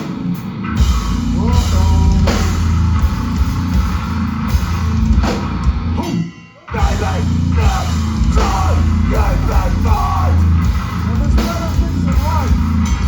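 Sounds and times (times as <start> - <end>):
bass guitar: 0.0 - 13.0
distorted electric guitar: 0.0 - 13.0
drum kit: 0.0 - 13.0.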